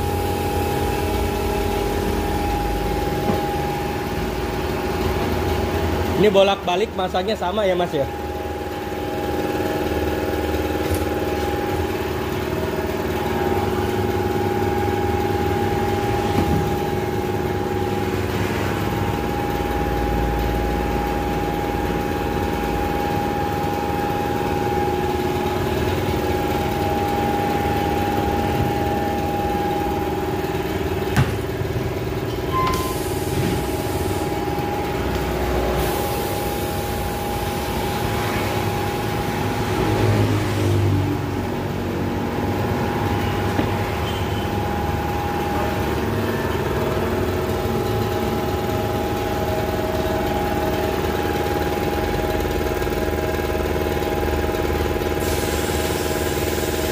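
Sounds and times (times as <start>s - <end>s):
air compressor humming: 0.0s - 56.9s.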